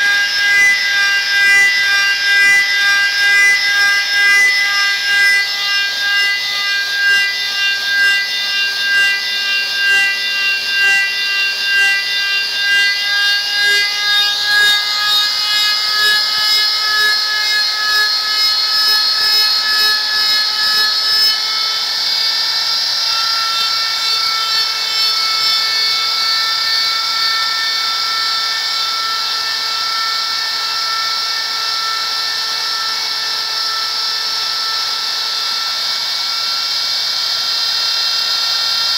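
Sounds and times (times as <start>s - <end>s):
die grinder whining: 0.0s - 38.9s.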